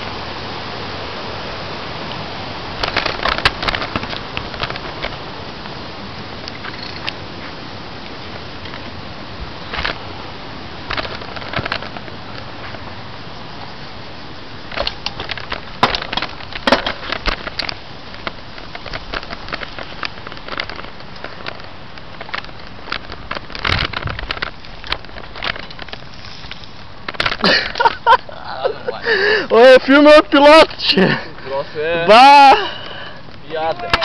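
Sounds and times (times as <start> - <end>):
bicycle rolling on stony trail: 1.1 - 34.0.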